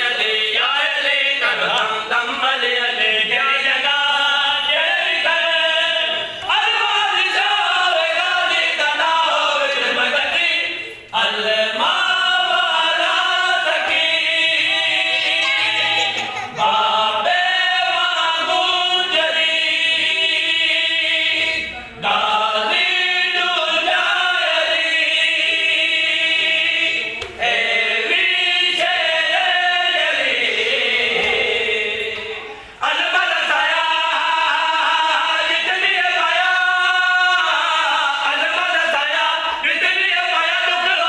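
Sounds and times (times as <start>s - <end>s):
men chanting together: 0.0s - 41.0s.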